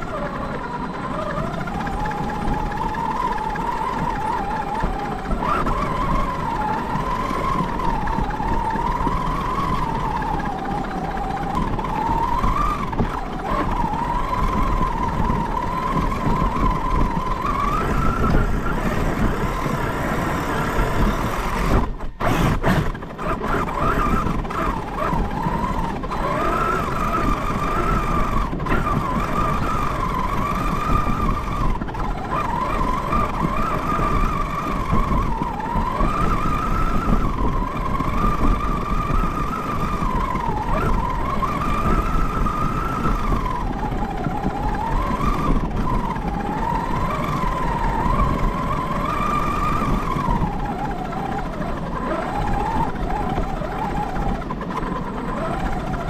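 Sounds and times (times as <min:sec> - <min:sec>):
rc car motor whining: 0:00.0 - 0:56.0
tyres churning through snow: 0:00.0 - 0:56.0.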